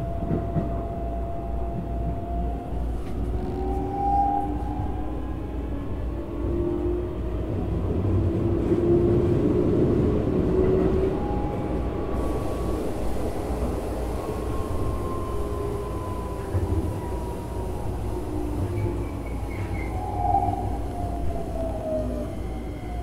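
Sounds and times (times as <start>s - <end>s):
electric train rumble: 0.0s - 23.0s.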